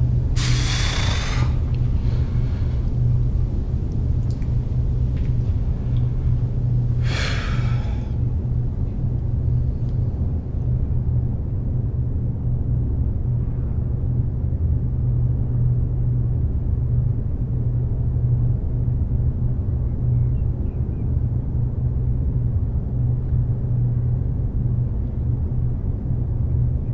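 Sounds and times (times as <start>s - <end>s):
low rumble: 0.0s - 26.9s.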